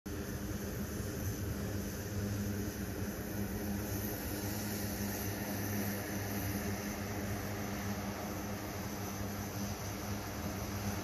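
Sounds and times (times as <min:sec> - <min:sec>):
constant hiss: 0:00.1 - 0:11.0.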